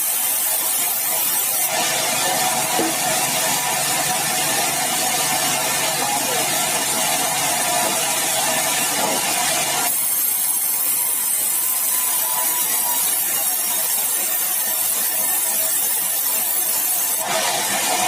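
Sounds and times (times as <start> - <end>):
sawmill saw cutting timber: 0.0 - 18.0.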